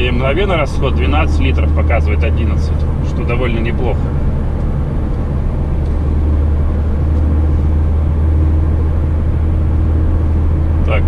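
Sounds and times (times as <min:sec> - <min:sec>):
car engine cruising: 0:00.0 - 0:11.0
road noise: 0:00.0 - 0:11.0.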